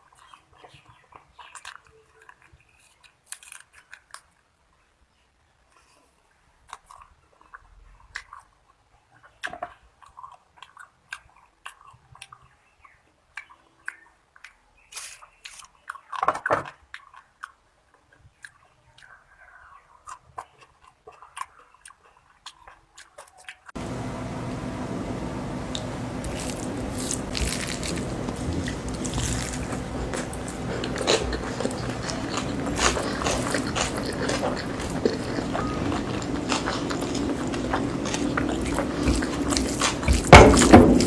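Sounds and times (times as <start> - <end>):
biting and chewing: 0.0 - 4.9, 5.7 - 23.8, 25.7 - 41.0.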